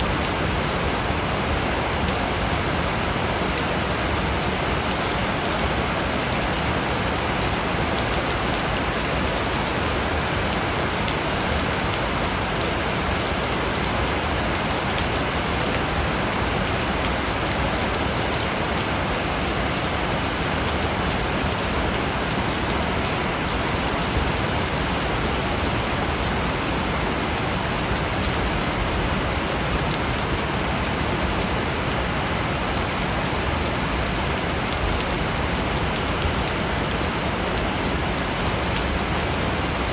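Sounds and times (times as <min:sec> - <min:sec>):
steady rainfall hiss: 0:00.0 - 0:39.9
raindrops ticking on a surface: 0:00.2 - 0:39.9.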